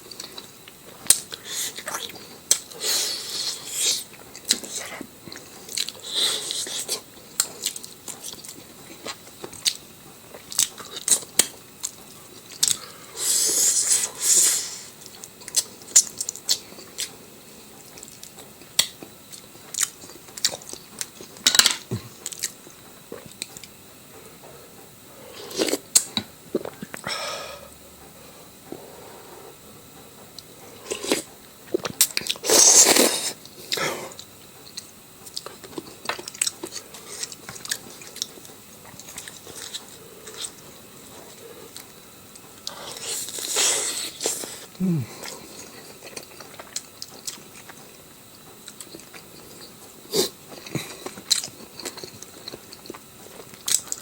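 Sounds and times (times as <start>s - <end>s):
person chewing crunchy food: 0.0s - 23.9s, 25.2s - 27.1s, 30.1s - 54.0s.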